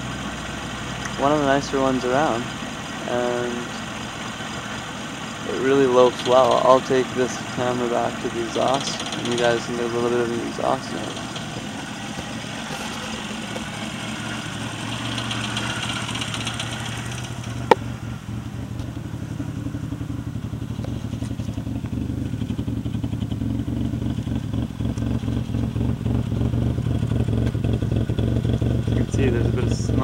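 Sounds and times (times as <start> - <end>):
engine idling lumpily: 0.0 - 30.0.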